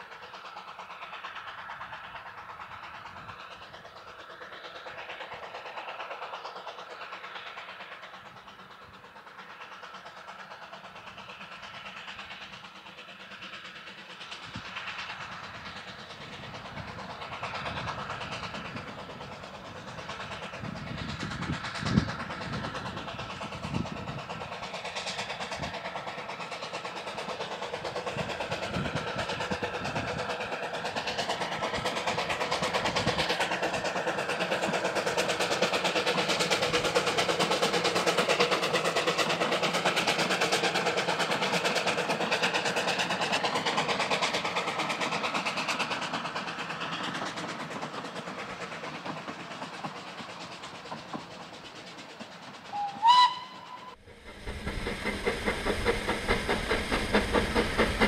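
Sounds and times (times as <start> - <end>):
steam locomotive hauling train: 0.0 - 58.0.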